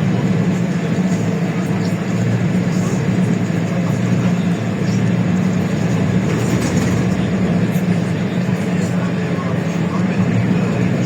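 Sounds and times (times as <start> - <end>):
bus engine humming: 0.0 - 11.0
road and cabin noise: 0.0 - 11.0.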